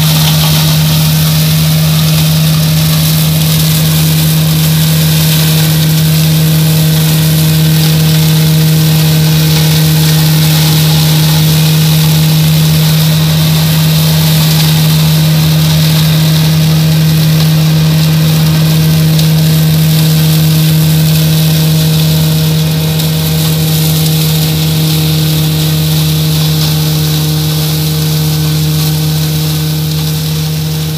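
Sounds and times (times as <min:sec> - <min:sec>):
flail shredder rotor hiss: 0:00.0 - 0:30.9
tractor diesel engine running: 0:00.0 - 0:30.9.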